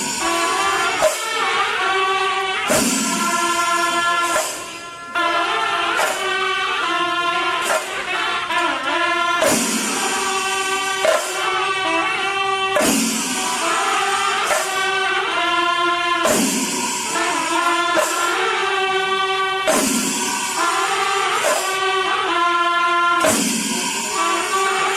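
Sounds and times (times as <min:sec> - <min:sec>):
background song with singing: 0:00.0 - 0:24.9.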